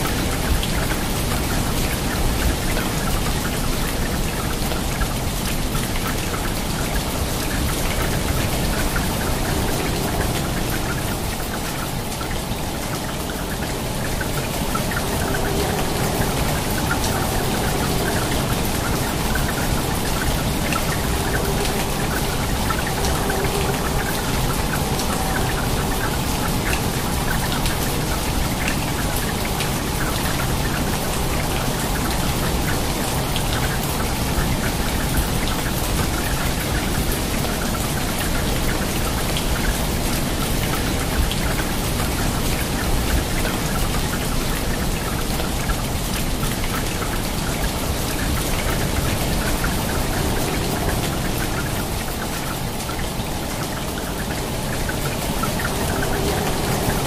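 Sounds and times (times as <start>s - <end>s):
heavy rain splashing onto water: 0.0s - 57.0s.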